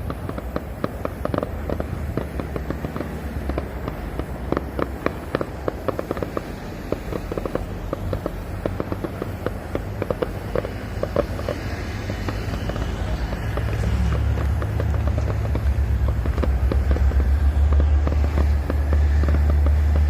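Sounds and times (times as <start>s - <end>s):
fireworks crackling: 0.0s - 20.0s
low background rumble: 0.0s - 20.0s.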